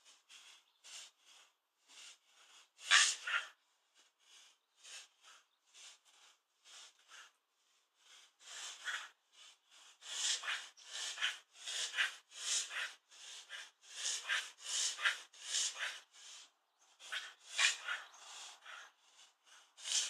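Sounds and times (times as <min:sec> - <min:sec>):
dog breathing fast: 0:00.0 - 0:20.0.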